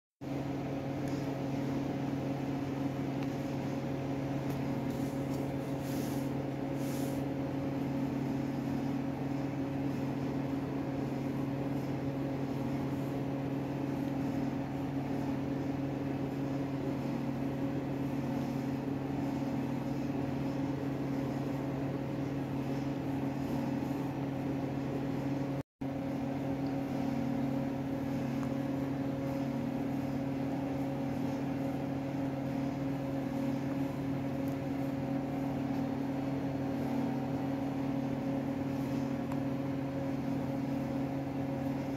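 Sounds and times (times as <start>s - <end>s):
steady mechanical hum: 0.2s - 41.9s.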